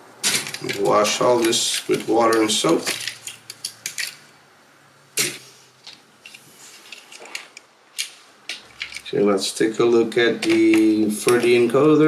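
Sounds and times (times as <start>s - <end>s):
small parts clicking and tapping: 0.2s - 4.3s, 5.2s - 9.2s, 10.1s - 12.0s.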